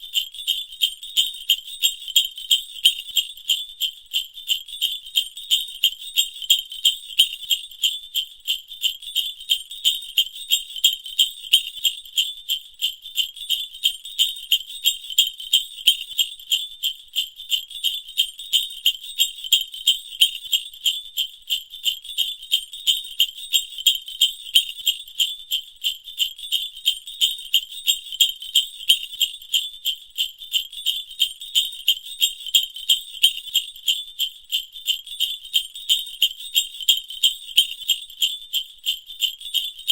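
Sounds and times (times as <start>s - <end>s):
sleigh bells jingling: 0.0s - 39.9s.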